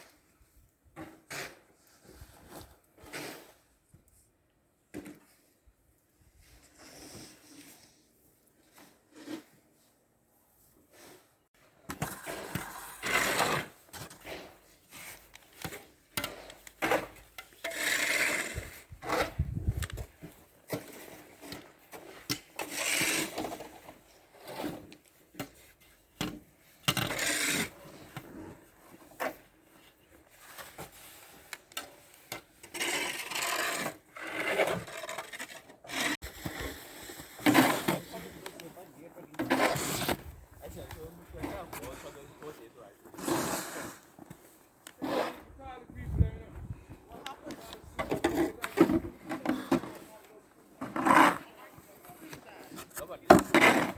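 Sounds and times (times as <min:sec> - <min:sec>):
snow shovel scraping snow: 0:01.0 - 0:03.6, 0:06.5 - 0:10.0, 0:12.0 - 0:53.9.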